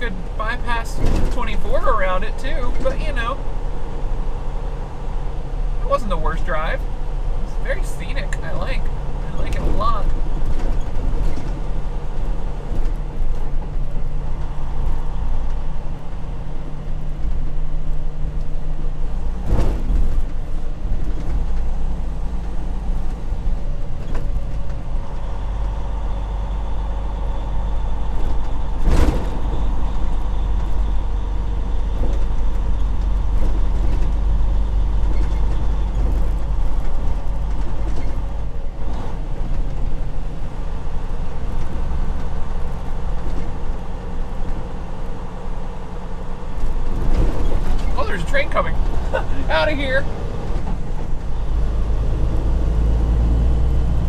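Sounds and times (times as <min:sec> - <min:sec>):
road rumble: 0:00.0 - 0:54.0
truck engine drone: 0:00.0 - 0:54.0.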